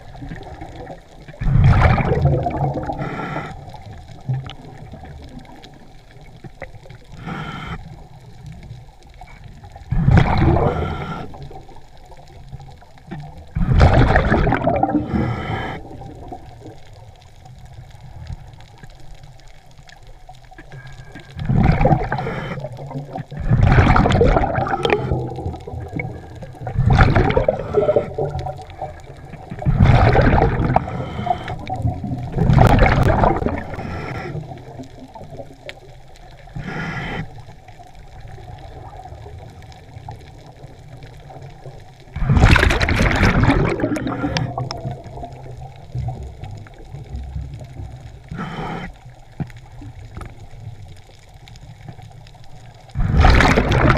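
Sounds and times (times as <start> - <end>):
underwater exhaled air bubbling: 0.0 - 53.9
water sound: 0.0 - 53.9.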